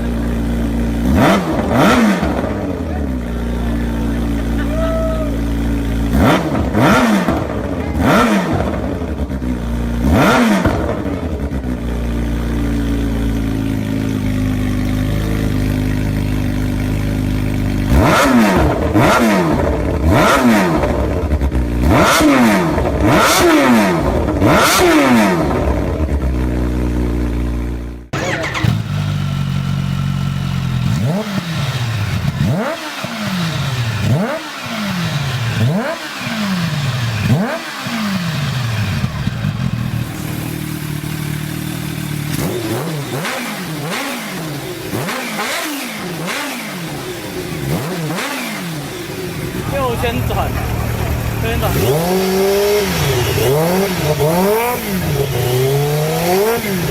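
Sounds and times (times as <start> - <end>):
engine idling: 0.0 - 22.0, 25.2 - 56.9
engine revving in throttle blips: 0.0 - 27.5, 28.1 - 56.9.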